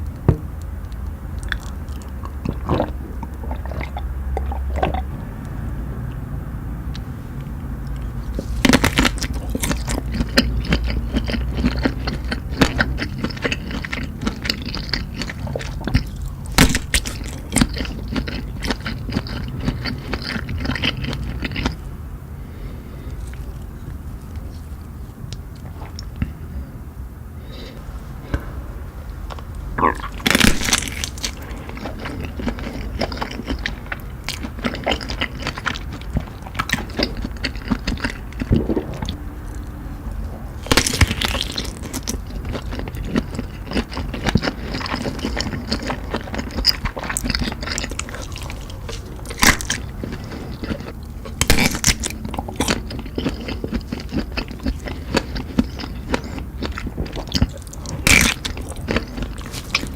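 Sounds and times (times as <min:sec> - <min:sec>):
person chewing and crunching: 0:00.0 - 0:06.3, 0:06.9 - 0:26.4, 0:29.2 - 0:59.9.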